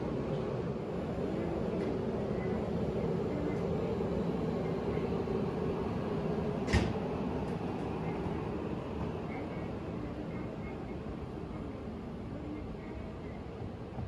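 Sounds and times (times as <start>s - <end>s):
train rumbling and humming: 0.0s - 14.0s.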